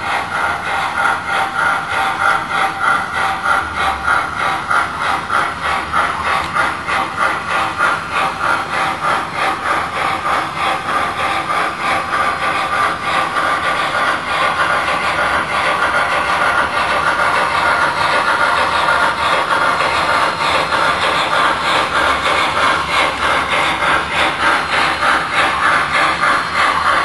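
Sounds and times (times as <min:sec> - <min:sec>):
model locomotive steam chuffing: 0:00.0 - 0:27.0.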